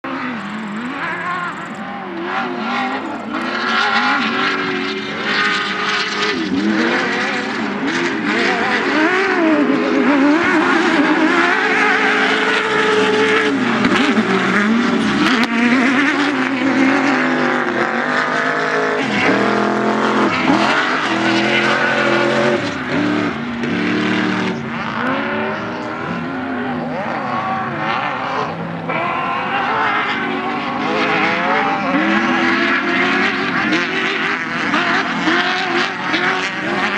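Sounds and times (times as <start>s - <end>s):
off-road race engines revving: 0.0s - 36.9s.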